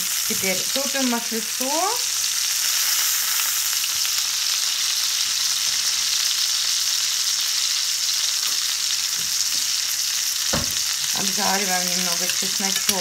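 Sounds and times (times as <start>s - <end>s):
steak sizzling in a pan: 0.0s - 13.0s.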